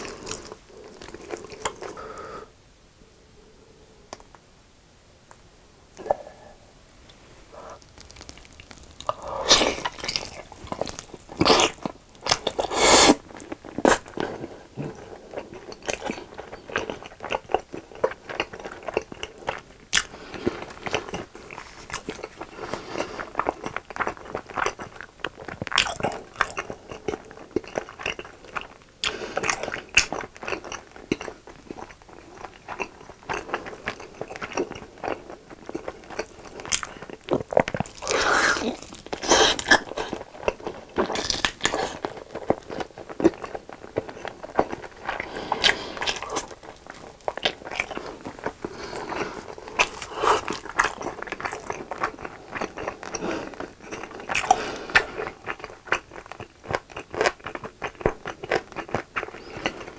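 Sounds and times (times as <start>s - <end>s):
wet chewing: 0.0s - 2.3s, 7.1s - 59.9s.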